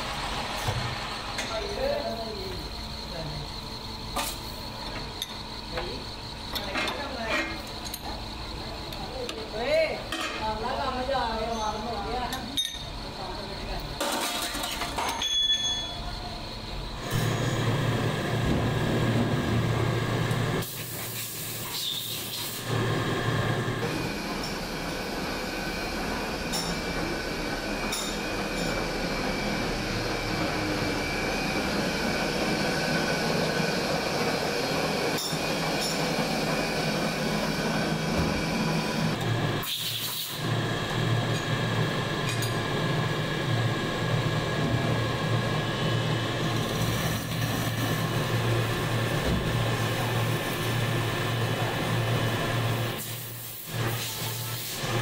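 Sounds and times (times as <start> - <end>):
factory machinery hum and hiss: 0.0 - 55.0.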